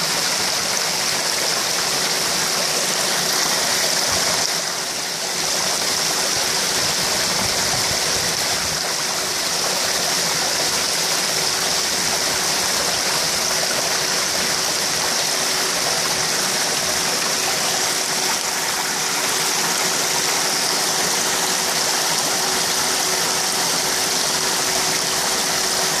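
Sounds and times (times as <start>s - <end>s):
water pouring into pond: 0.0s - 26.0s.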